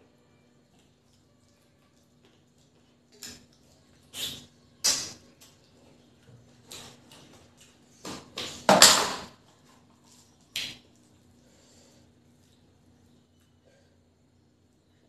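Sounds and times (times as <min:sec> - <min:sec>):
wet eating noises: 0:00.6 - 0:08.8, 0:09.4 - 0:13.6.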